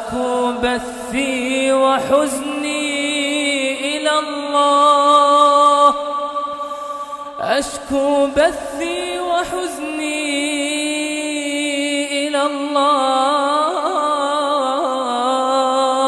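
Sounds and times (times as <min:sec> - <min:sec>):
man chanting melodically: 0:00.0 - 0:06.4, 0:07.4 - 0:16.0.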